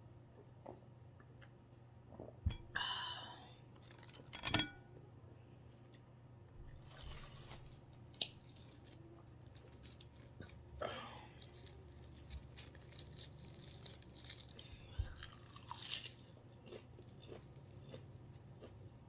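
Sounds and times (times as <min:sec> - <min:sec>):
soft chewing and crunching: 0:03.7 - 0:19.0.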